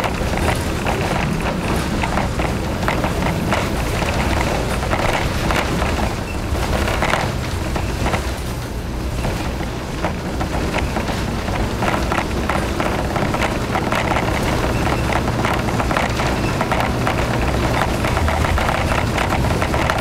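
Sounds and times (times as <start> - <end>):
railcar engine drone: 0.0 - 20.0
wheels clicking and rattling: 0.0 - 20.0.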